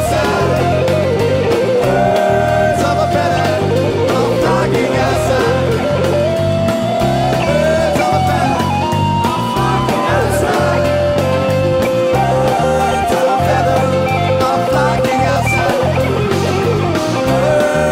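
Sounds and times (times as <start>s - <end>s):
bass guitar: 0.0s - 17.9s
lead guitar sustained notes: 0.0s - 17.9s
steady drum beat: 0.0s - 17.9s.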